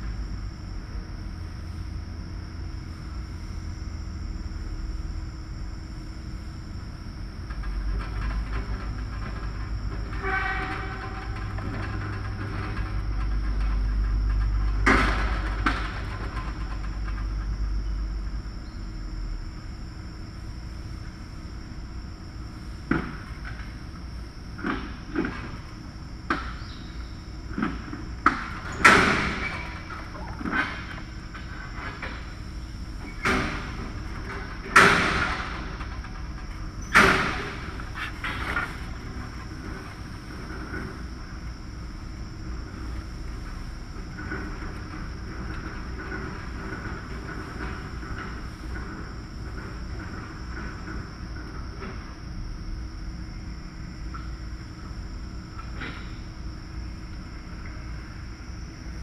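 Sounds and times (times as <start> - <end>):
faint high whine: 0.0 - 59.0
low mechanical rumble: 0.0 - 59.0.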